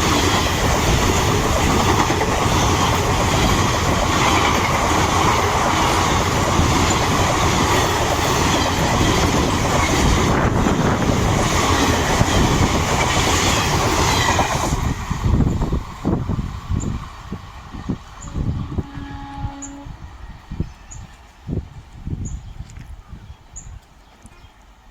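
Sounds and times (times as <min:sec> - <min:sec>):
train passing at speed: 0:00.0 - 0:22.3.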